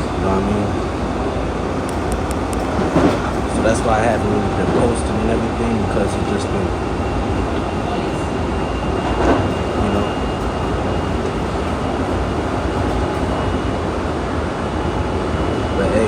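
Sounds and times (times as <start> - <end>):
train rumbling and rushing: 0.0 - 16.0.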